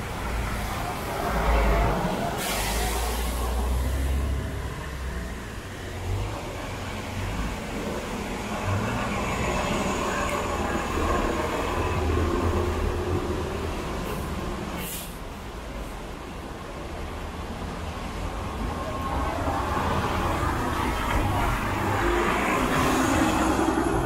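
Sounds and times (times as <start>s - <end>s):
bus engine idling: 0.0s - 24.0s
wet street traffic hiss: 0.0s - 24.0s.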